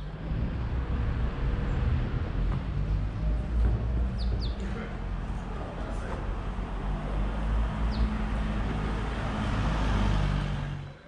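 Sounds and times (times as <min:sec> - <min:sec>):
traffic engine and road rumble: 0:00.0 - 0:11.0.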